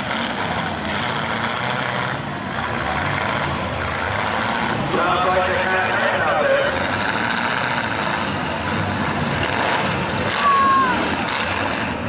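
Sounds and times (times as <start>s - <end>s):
car engines revving: 0.0s - 12.0s
crowd noise: 0.0s - 12.0s.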